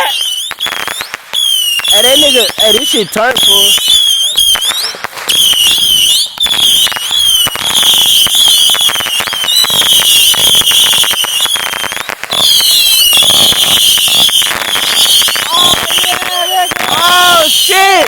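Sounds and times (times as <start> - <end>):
fireworks crackling pops: 0.0 - 18.0
shrill whistling fireworks: 0.0 - 18.0.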